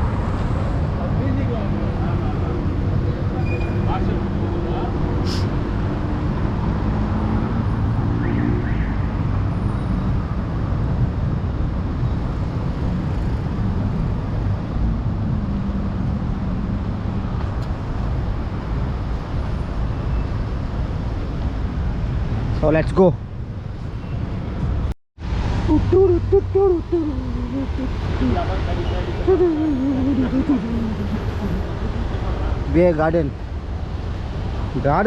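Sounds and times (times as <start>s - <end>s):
engine and traffic rumble: 0.0s - 35.0s.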